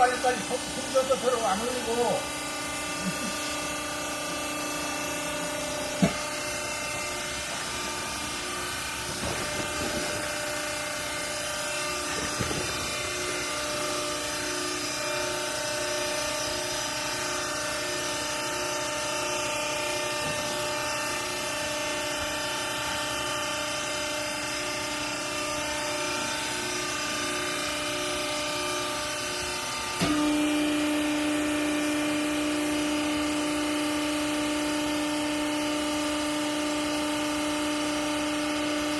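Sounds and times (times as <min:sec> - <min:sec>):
baling press motor humming: 0:00.0 - 0:38.9.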